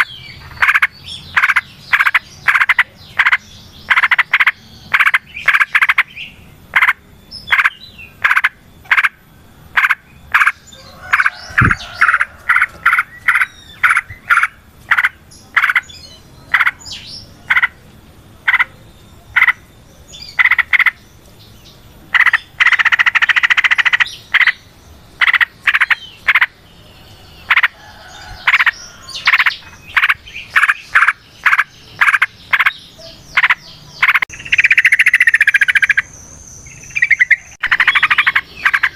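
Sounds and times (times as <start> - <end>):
bird calling sharp notes: 0.0 - 17.8, 22.1 - 26.6, 28.4 - 38.9
bird chattering: 0.0 - 17.8, 18.4 - 21.1, 22.1 - 26.7, 27.4 - 38.9.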